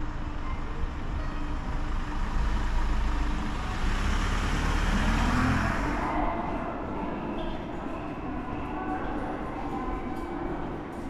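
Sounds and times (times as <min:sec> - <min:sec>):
subway train rumbling past: 0:00.0 - 0:11.0.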